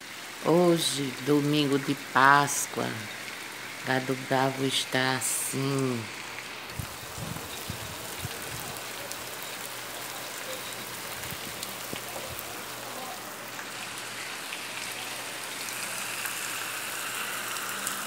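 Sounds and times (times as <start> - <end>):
rain splashing on wet street: 0.0 - 18.0.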